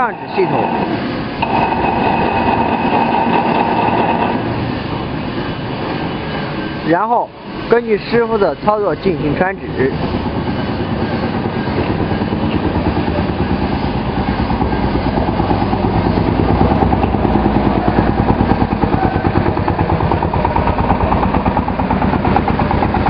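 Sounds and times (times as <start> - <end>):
industrial machinery droning: 0.0 - 23.0.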